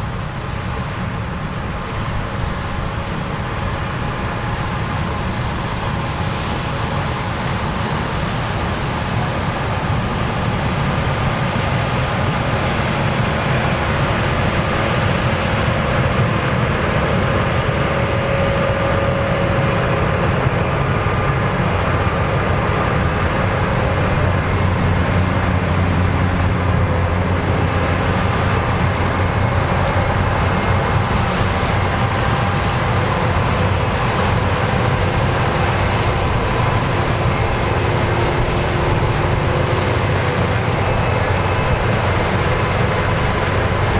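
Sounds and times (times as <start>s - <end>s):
combine harvester running: 0.0s - 43.9s.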